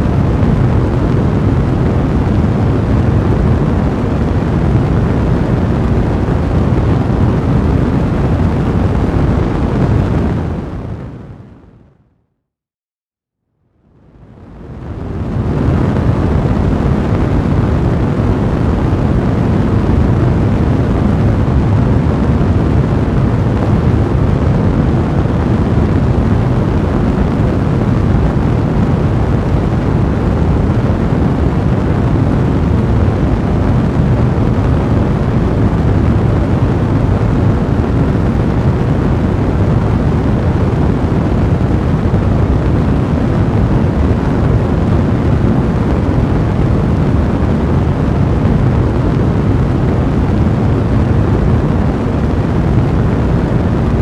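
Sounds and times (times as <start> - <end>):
fire burning: 0.0 - 11.4, 14.1 - 54.0.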